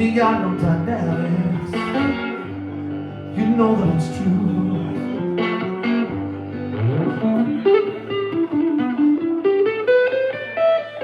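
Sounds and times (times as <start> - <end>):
guitar lead line: 0.0 - 11.0.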